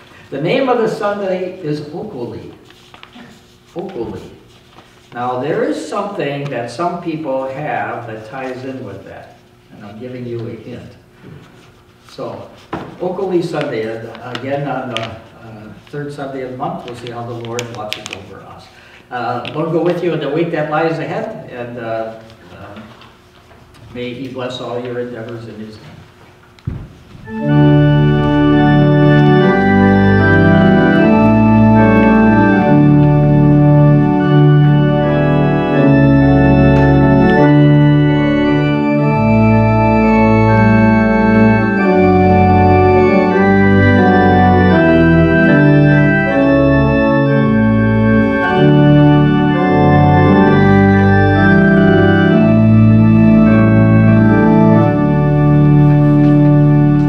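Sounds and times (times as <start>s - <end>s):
organ playing chords: 0.0s - 2.8s, 3.4s - 23.1s, 26.9s - 57.0s.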